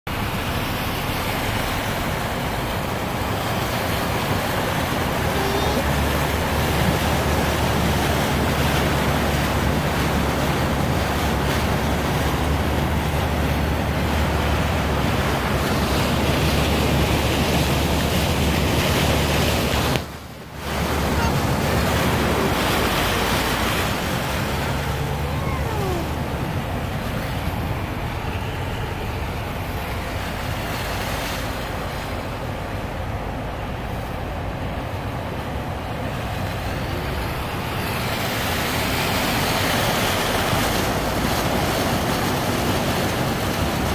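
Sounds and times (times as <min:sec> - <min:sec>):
low engine hum: 0:00.1 - 0:43.9
water rushing and splashing: 0:00.1 - 0:43.9.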